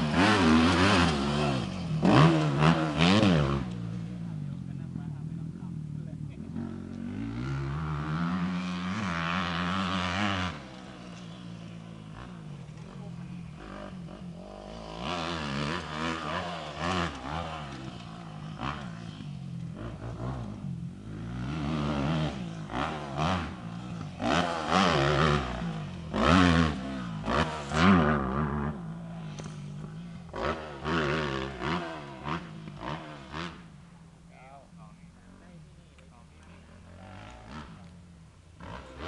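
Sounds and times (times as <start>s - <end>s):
motorbike engine revving: 0.0s - 34.0s, 35.3s - 39.0s.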